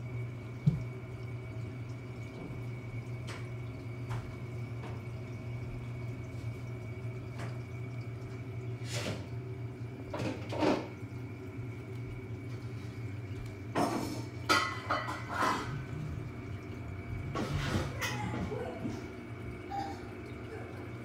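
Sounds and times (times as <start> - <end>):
aquarium equipment hum: 0.0 - 21.0.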